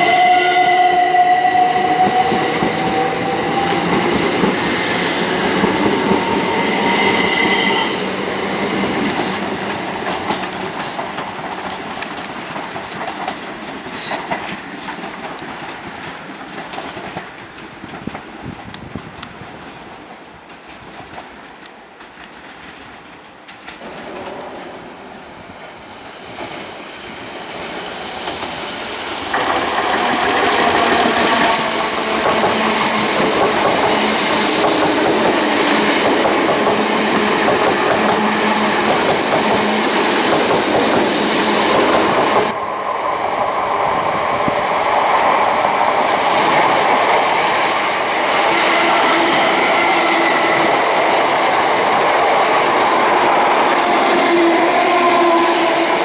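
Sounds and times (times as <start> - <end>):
trains passing on rails: 0.0 - 56.0.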